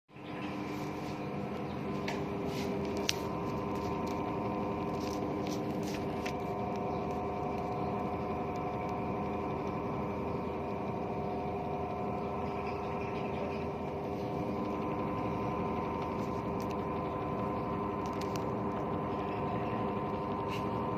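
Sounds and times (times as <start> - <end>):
washing machine humming: 0.1 - 20.9.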